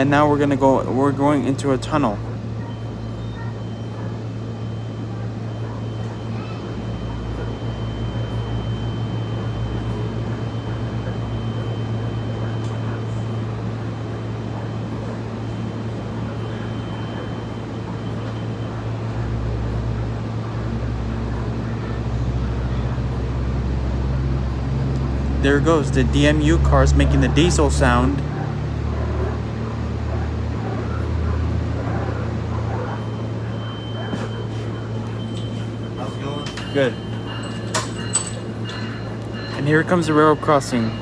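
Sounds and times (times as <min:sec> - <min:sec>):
diesel railcar engine drone: 0:00.0 - 0:41.0
wheel and rail rumble: 0:00.0 - 0:41.0.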